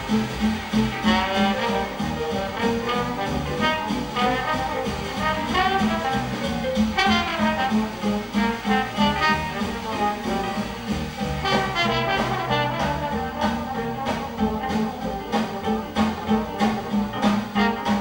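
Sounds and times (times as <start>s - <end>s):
jazz band rhythm section: 0.0s - 18.0s
trombone solo sliding: 0.0s - 18.0s.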